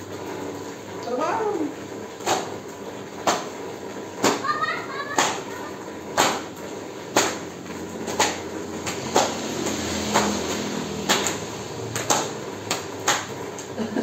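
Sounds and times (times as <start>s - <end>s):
rain on tiles: 0.0s - 14.0s.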